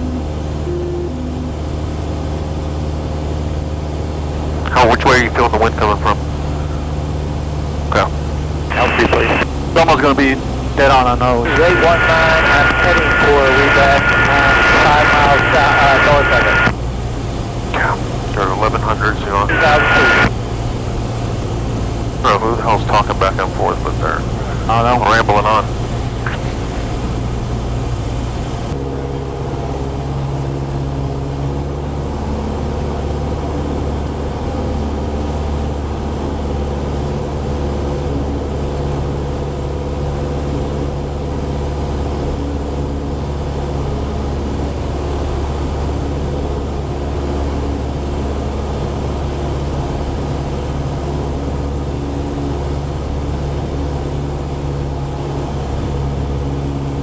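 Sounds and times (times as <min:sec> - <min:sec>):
plane engine and propeller droning: 0:00.0 - 0:57.0.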